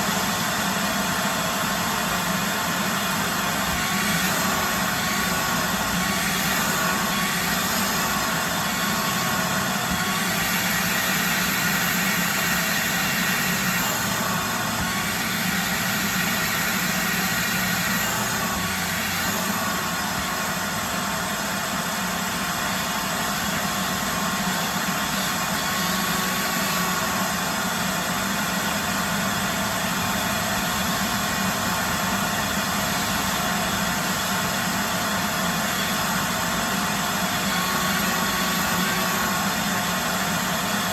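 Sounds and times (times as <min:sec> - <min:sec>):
shop vacuum running: 0:00.0 - 0:40.9.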